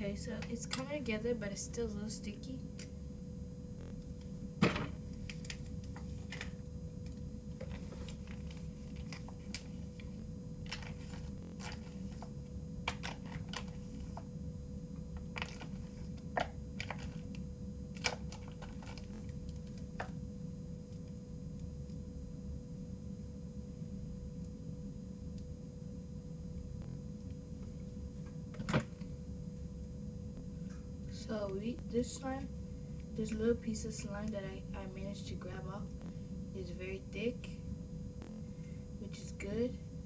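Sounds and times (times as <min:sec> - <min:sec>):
low hum with faint tone: 0:00.0 - 0:40.0.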